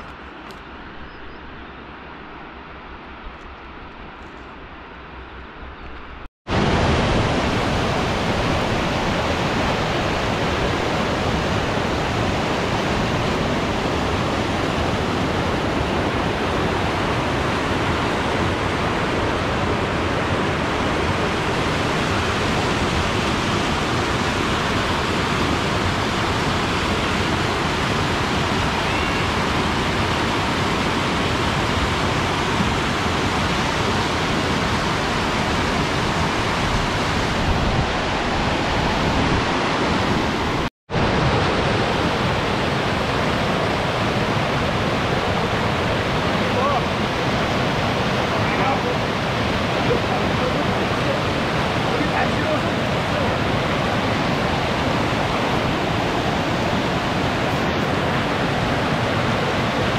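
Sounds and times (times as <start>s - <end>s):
stream rushing over rocks: 6.5s - 59.9s.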